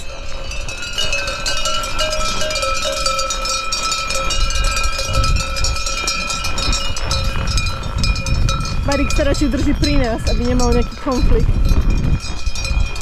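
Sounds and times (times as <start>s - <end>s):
sheep bells clanking: 0.0s - 13.0s.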